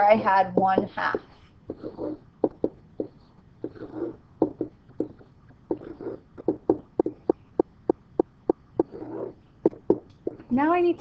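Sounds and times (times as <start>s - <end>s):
pen tapping on hard surface: 0.6s - 10.4s
pen scratchy strokes: 0.6s - 10.5s.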